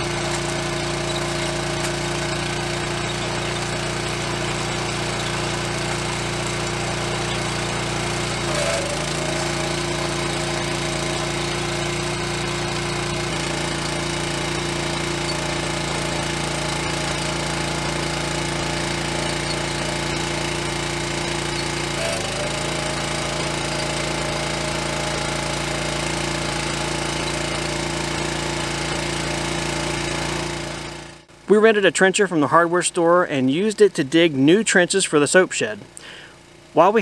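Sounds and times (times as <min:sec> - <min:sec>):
digging chain cutting soil: 0:00.0 - 0:31.2
trencher engine running: 0:00.0 - 0:31.5, 0:35.8 - 0:37.0.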